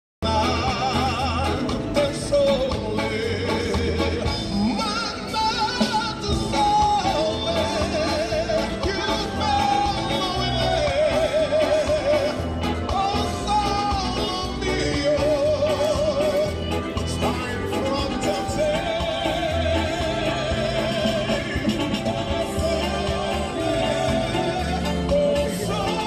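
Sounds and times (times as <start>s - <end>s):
pulsing bass beat: 0.2s - 26.0s.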